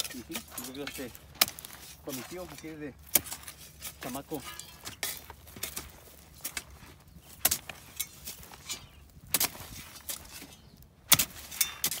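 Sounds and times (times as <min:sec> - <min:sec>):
shovel scraping into stony soil: 0:00.0 - 0:12.0.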